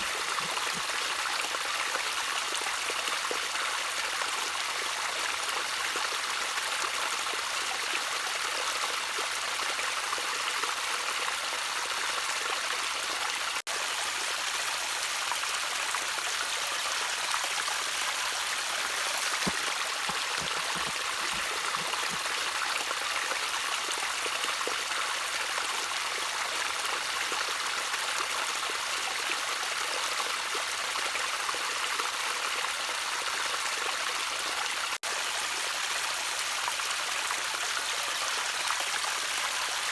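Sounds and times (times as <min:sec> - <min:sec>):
stream trickling and burbling: 0:00.0 - 0:39.9.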